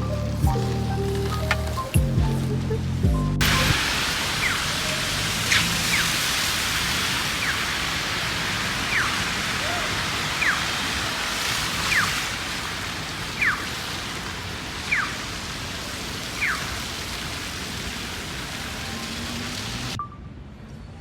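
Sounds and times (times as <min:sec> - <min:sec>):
sleet falling hiss: 0:00.0 - 0:02.6, 0:03.4 - 0:19.9.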